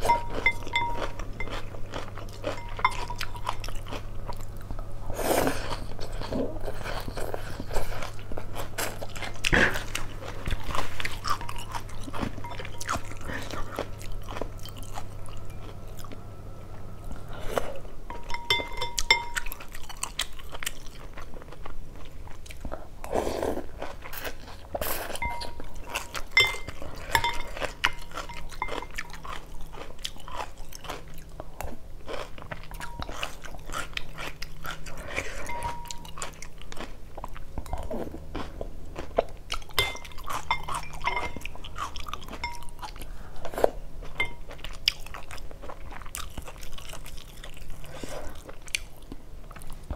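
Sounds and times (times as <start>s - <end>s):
person chewing wet food: 0.0s - 49.9s.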